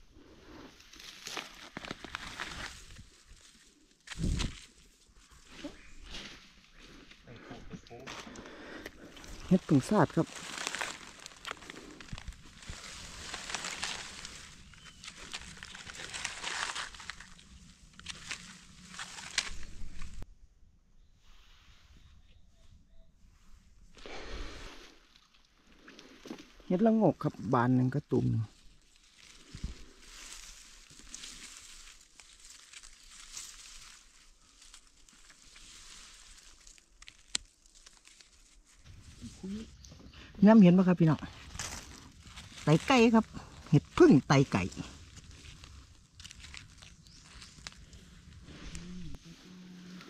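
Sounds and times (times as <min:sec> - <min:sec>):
dry leaves rustling and crackling: 0:00.8 - 0:07.1, 0:07.9 - 0:20.2, 0:26.6 - 0:39.8, 0:40.4 - 0:50.0.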